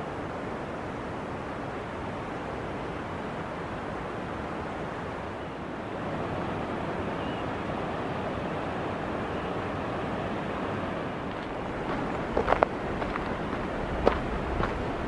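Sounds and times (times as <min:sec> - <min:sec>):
open-air ambient rushing noise: 0:00.0 - 0:15.0.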